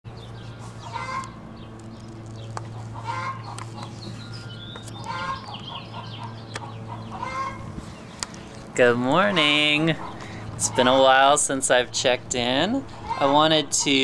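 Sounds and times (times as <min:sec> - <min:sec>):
steady low hum: 0:00.1 - 0:14.0
chickens clucking: 0:00.2 - 0:11.6, 0:12.7 - 0:14.0.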